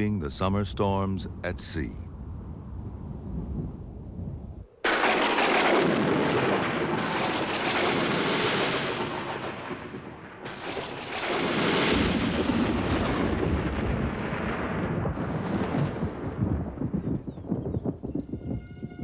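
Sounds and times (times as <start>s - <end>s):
rolling thunder: 2.2s - 19.0s.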